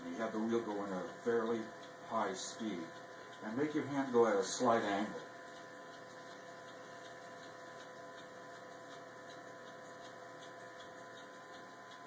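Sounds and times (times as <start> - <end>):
potter's wheel humming: 0.0 - 12.0.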